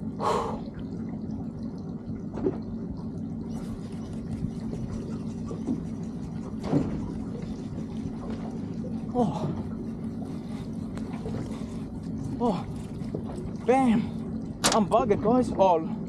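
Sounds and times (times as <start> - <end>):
steady low hum: 0.0 - 16.0
water lapping against boat hull: 0.0 - 16.0.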